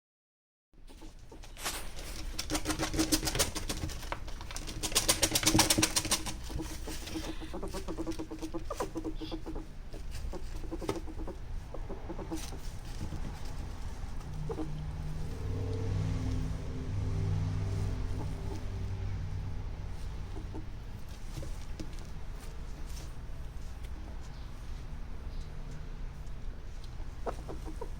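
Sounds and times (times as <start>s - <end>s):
ferrets clucking: 0.9s - 24.6s, 26.5s - 27.9s.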